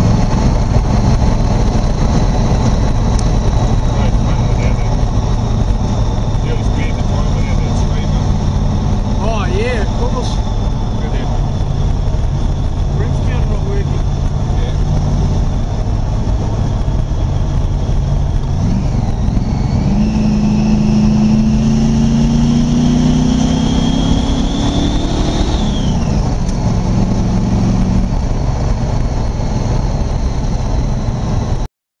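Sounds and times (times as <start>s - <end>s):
supercharged engine revving: 0.0s - 31.6s
high supercharger whine: 0.0s - 31.7s.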